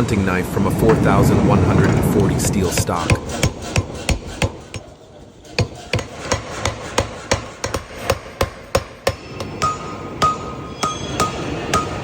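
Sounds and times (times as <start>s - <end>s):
forging hammer striking steel: 0.0s - 4.9s, 5.6s - 12.0s.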